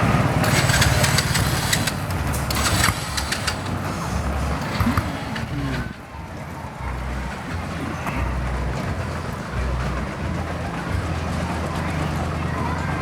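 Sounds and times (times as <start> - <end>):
engine rumbling at low speed: 0.0 - 13.0.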